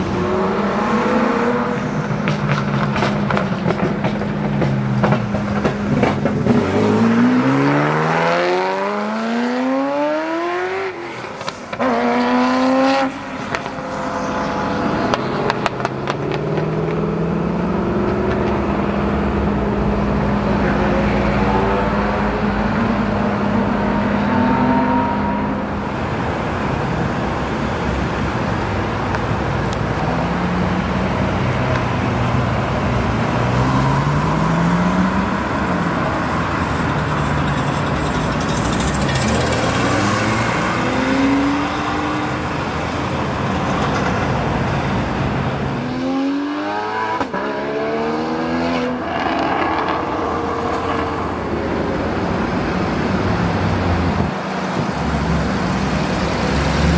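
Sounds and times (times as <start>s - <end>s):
sports car accelerating hard: 0.0s - 26.7s, 29.7s - 56.9s
cars accelerating past: 0.0s - 56.9s.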